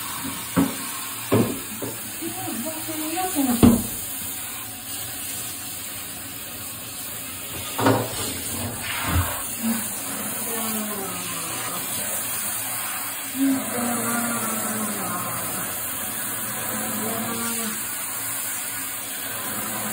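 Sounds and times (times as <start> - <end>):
shower head spraying water: 0.0 - 19.9.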